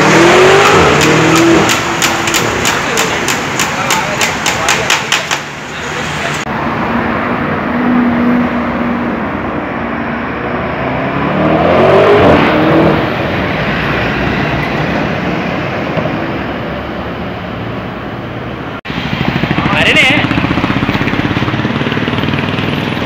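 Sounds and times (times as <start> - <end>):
car engine accelerating: 0.0 - 4.4, 5.5 - 17.0, 18.5 - 23.0
road traffic: 0.0 - 23.0.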